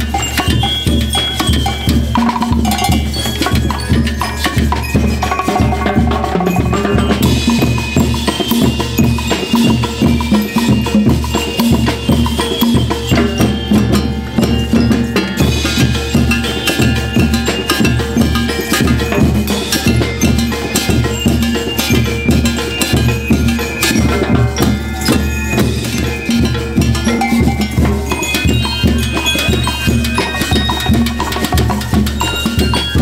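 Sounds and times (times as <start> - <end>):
drums and percussion beat: 0.0 - 33.0
sustained melody: 5.4 - 32.7.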